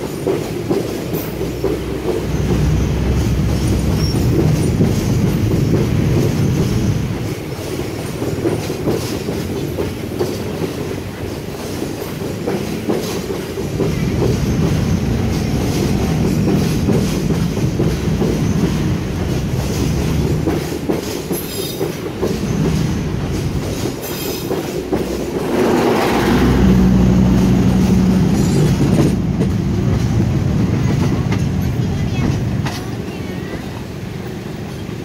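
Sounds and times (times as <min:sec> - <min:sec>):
train wheels clickety-clack: 0:00.0 - 0:35.0.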